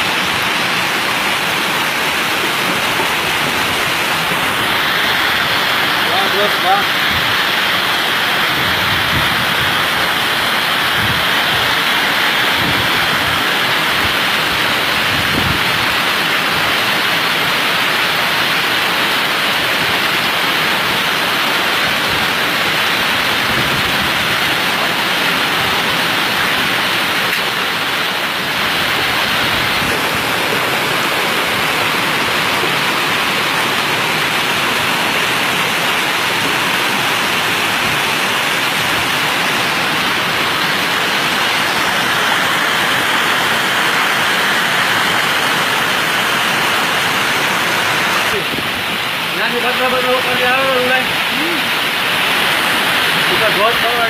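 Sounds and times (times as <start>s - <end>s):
heavy rain: 0.0s - 54.0s
running water: 0.0s - 54.0s.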